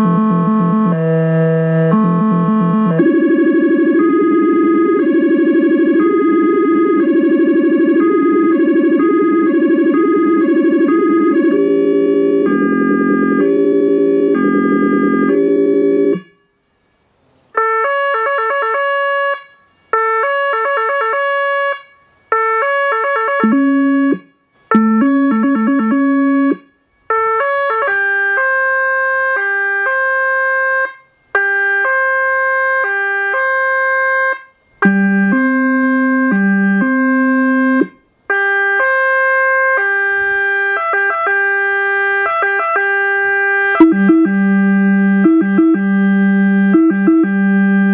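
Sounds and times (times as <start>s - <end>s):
deep low-frequency siren tone: 0.0s - 16.5s, 17.6s - 47.9s
two-tone electronic siren: 0.0s - 16.6s, 17.6s - 47.9s.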